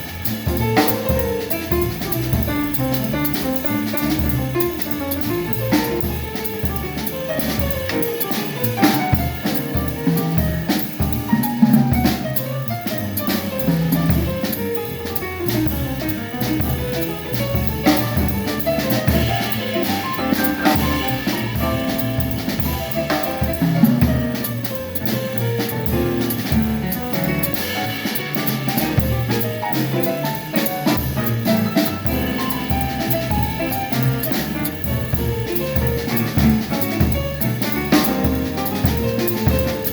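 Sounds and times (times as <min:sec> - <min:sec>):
drum kit keeping time: 0:00.0 - 0:39.9
jazz quartet playing: 0:00.0 - 0:39.9.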